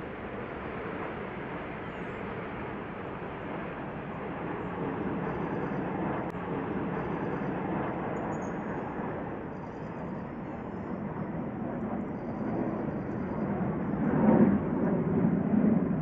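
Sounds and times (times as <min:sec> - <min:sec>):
jets roaring overhead: 0:00.0 - 0:16.0.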